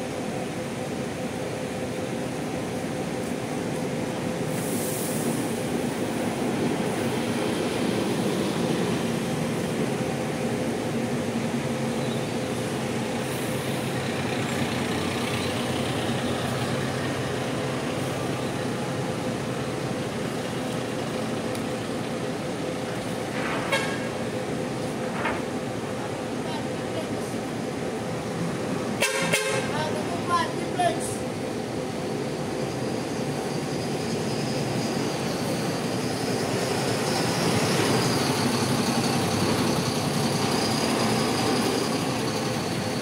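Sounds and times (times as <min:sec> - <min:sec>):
bus diesel engines running: 0:00.0 - 0:43.0.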